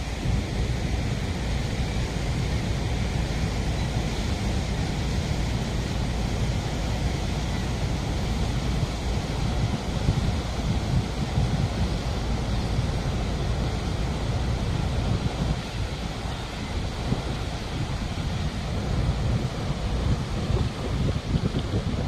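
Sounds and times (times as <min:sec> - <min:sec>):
waterfall roaring: 0:00.0 - 0:22.0
wind on microphone: 0:00.0 - 0:22.0.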